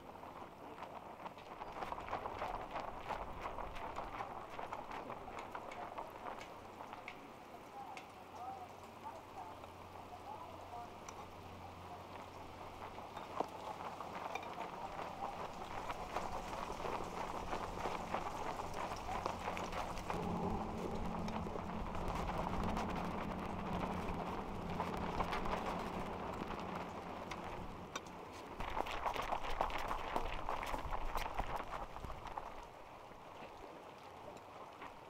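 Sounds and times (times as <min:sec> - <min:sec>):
broth crackling and popping: 0:00.0 - 0:35.0
faint low hum: 0:00.0 - 0:35.0.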